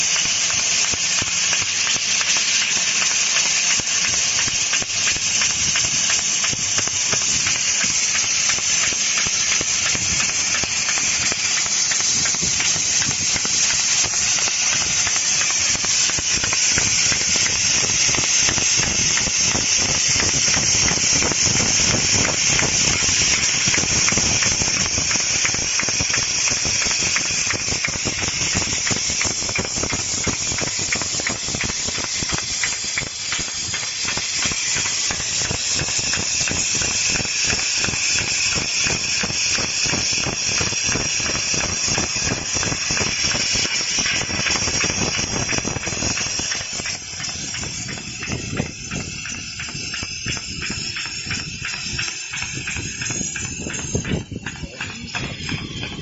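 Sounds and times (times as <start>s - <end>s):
fine crackling ticks: 0.0s - 56.0s
laser cutter air hiss: 0.0s - 56.0s.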